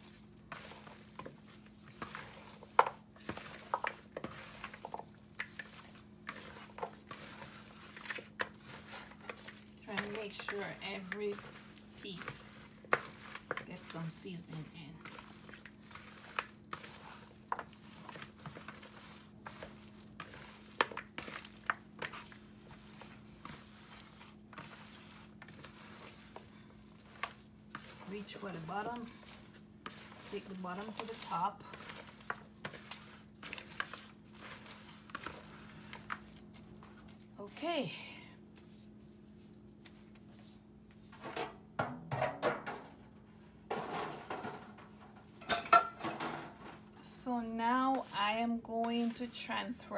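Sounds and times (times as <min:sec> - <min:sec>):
squishing of meat: 0:00.0 - 0:41.1
plastic gloves crinkling: 0:00.0 - 0:41.2.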